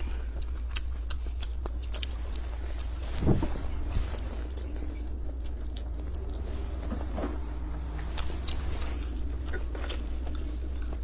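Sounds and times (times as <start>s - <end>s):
close-up chewing: 0.0s - 11.0s
steady low hum: 0.0s - 11.0s.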